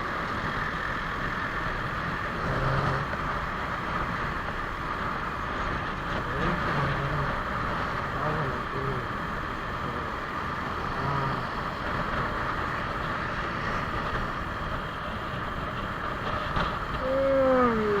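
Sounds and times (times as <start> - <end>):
wind and road rush: 0.0 - 18.0
motorcycle engine running: 0.1 - 18.0.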